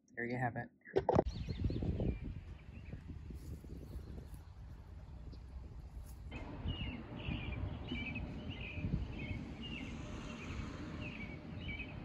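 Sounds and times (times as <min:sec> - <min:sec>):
bird chirping: 0:01.0 - 0:03.1, 0:03.8 - 0:12.0.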